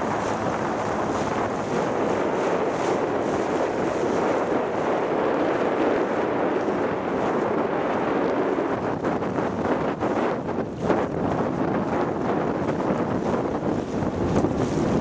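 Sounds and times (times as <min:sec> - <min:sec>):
water noise: 0:00.0 - 0:15.0
wind buffeting microphone: 0:00.0 - 0:15.0.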